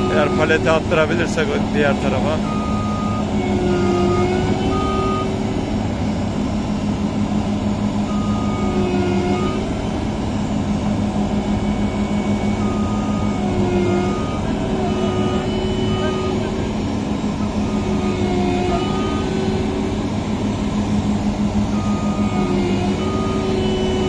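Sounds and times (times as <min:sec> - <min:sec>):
diesel engine straining under load: 0:00.0 - 0:24.0
whining tones: 0:00.0 - 0:24.0.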